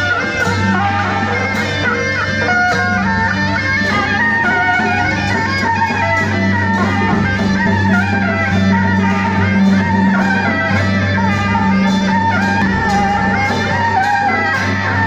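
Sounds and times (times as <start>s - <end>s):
percussion strikes: 0.0s - 15.0s
shrill double-reed horns: 0.0s - 15.0s.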